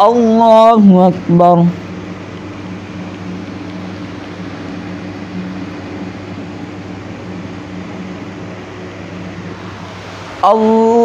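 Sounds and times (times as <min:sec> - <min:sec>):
ceiling fans hissing: 0:00.0 - 0:11.0
sound system hum: 0:00.0 - 0:11.0.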